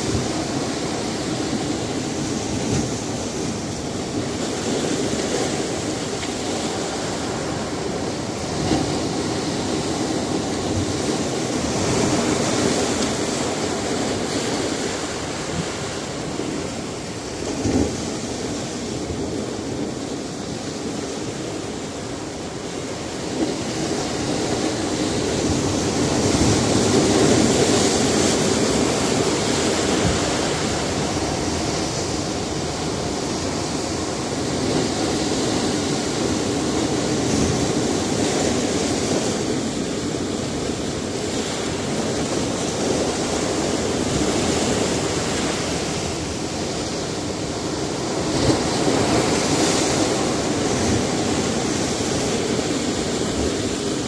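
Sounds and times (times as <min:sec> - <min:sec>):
surf breaking on rocky shore: 0:00.0 - 0:54.0.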